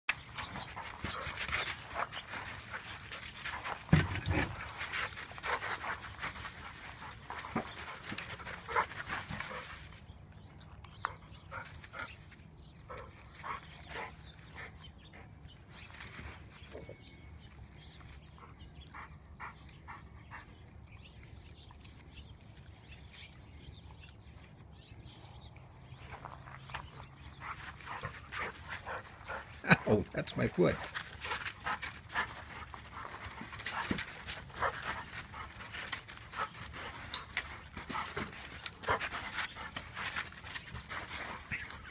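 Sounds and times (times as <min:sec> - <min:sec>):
dog paws crunching on gravel: 0:00.1 - 0:14.5, 0:21.8 - 0:41.9.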